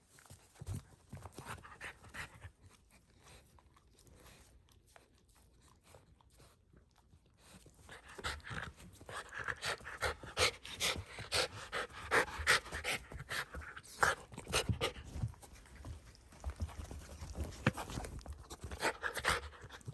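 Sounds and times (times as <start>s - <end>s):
dog panting: 0.1s - 19.9s.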